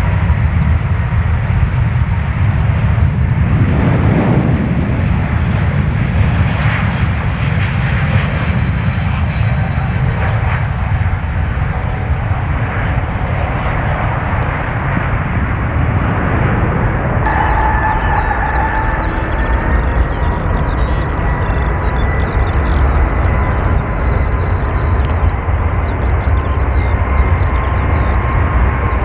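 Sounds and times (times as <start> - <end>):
jet engine roar at takeoff: 0.0 - 29.0.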